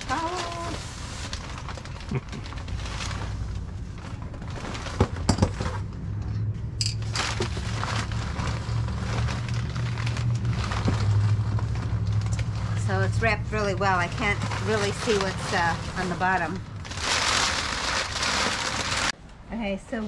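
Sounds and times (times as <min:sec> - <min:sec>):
packing material crinkling: 0:00.0 - 0:05.8, 0:07.0 - 0:19.2.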